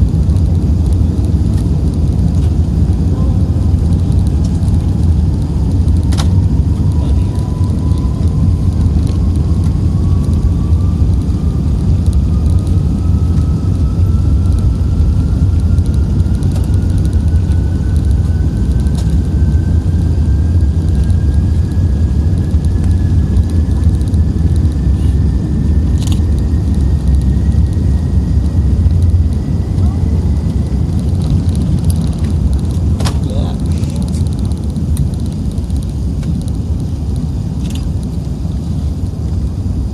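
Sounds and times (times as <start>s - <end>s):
aircraft cabin engine rumble: 0.0s - 39.9s
faint rising whine: 0.0s - 39.9s.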